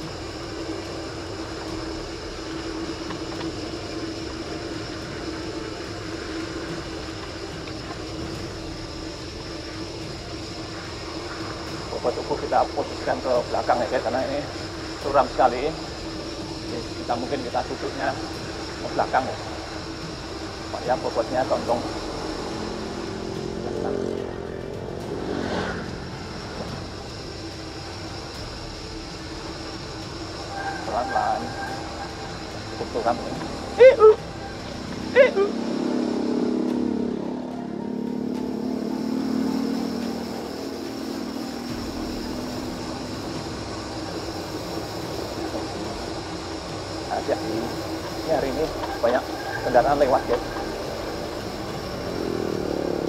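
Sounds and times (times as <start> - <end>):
bike tyre noise: 0.0 - 53.0.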